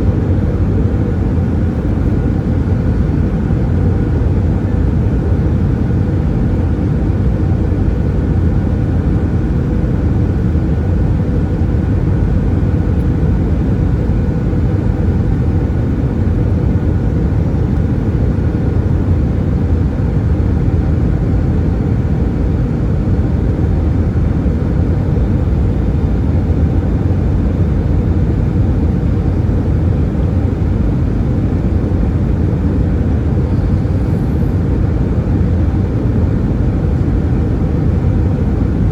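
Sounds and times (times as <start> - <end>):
faint steady hum tones: 0.0 - 38.9
jet cabin rumble: 0.0 - 38.9.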